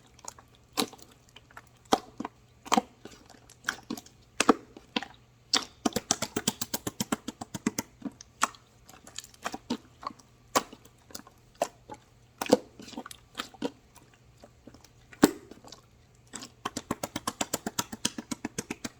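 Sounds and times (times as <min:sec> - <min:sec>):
slime squelching and popping: 0:00.0 - 0:18.9.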